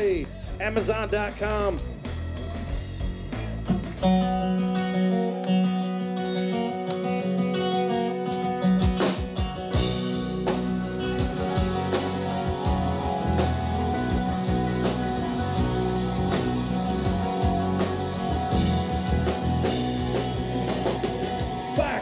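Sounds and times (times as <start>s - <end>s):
bass guitar: 0.0s - 22.0s
drums: 0.0s - 22.0s
electric guitar chords: 0.0s - 22.0s.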